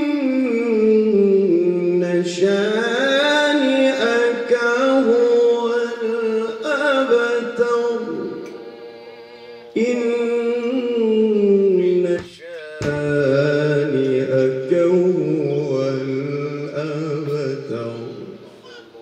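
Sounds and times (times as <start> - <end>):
man reciting melodically: 0.0 - 8.6, 9.7 - 19.0.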